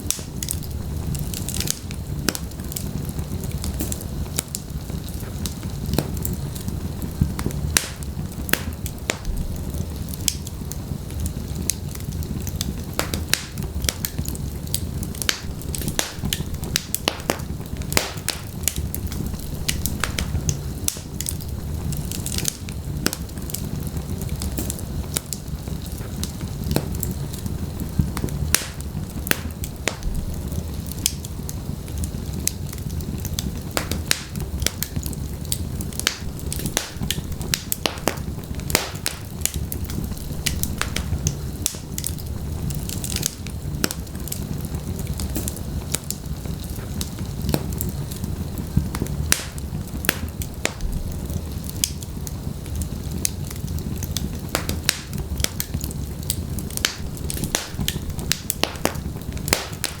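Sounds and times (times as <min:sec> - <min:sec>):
low rumble of burning fire: 0:00.0 - 1:00.0
wood fire pops and snaps: 0:00.0 - 1:00.0.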